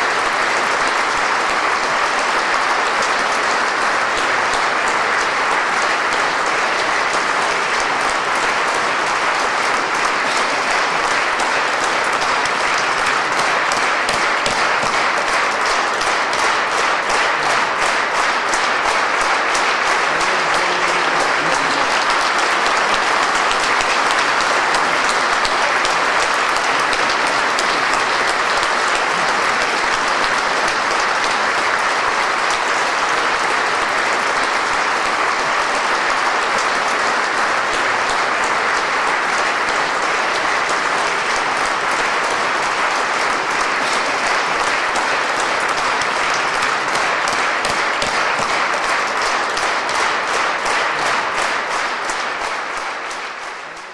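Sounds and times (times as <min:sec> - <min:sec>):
audience applauding: 0:00.0 - 0:53.9.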